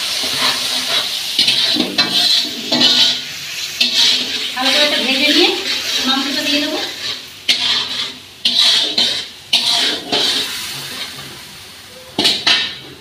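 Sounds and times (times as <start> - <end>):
masala sizzling in hissing bursts: 0.0 - 13.0
metal spatula stirring: 0.1 - 3.2, 3.8 - 11.3, 12.2 - 12.9.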